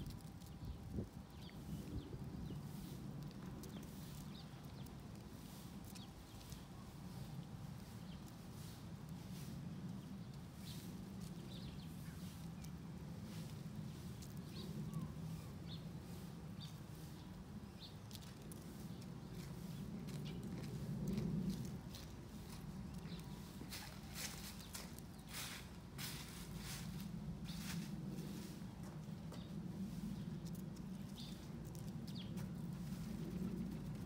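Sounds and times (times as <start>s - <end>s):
pigeons pecking at asphalt: 0.0s - 34.0s.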